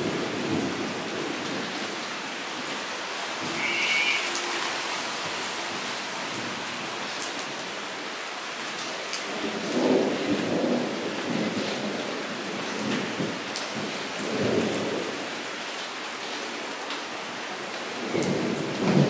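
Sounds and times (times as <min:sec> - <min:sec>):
rain falling into standing water: 0:00.0 - 0:19.0.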